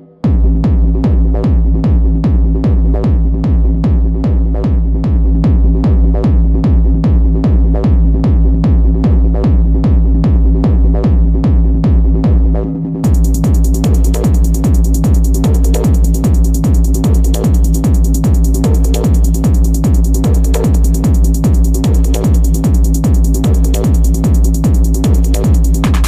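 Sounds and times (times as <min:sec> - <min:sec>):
bass drone: 0:00.0 - 0:26.0
hard techno kick drum: 0:00.2 - 0:26.0.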